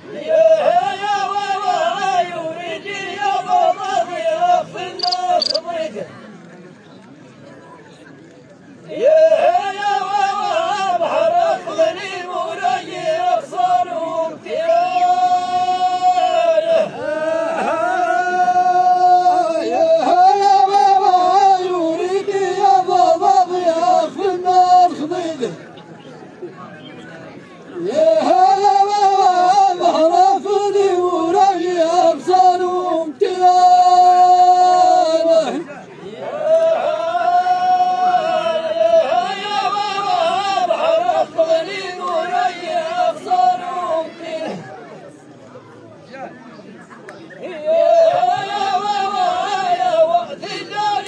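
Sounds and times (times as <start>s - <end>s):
men chanting in unison: 0.0s - 6.1s, 8.9s - 25.6s, 27.8s - 44.7s, 47.4s - 51.0s
men singing drawn-out vocal line: 0.0s - 6.1s, 8.9s - 25.7s, 27.8s - 44.7s, 47.4s - 51.0s.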